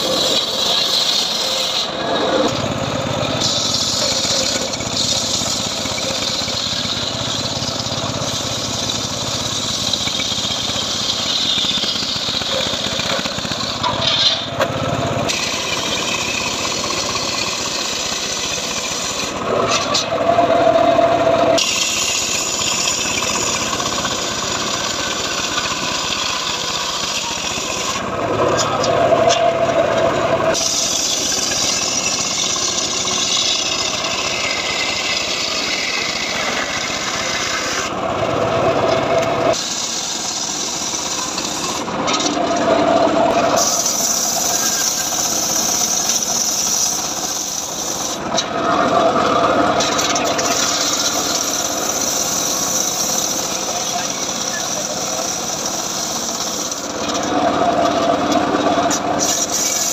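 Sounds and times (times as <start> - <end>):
circular saw cutting log: 0.0 - 59.9.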